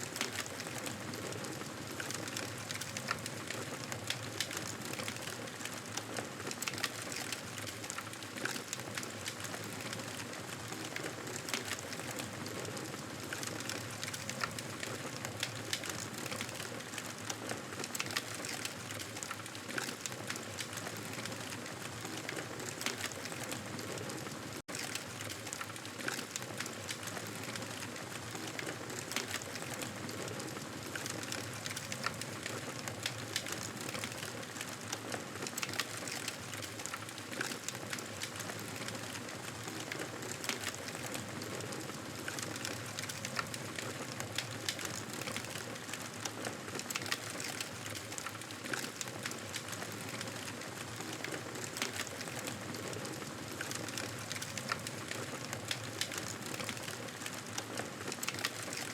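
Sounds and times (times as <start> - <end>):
fire crackling: 0.0 - 58.9.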